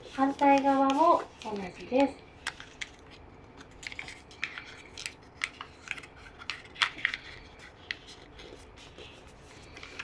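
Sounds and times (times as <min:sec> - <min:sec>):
paper rustling and crackling: 0:00.0 - 0:10.0.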